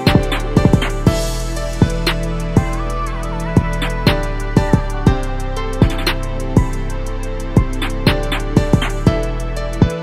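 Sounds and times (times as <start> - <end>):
steady drum beat: 0.0 - 6.9, 7.5 - 10.0
held instrumental chords: 0.0 - 10.0.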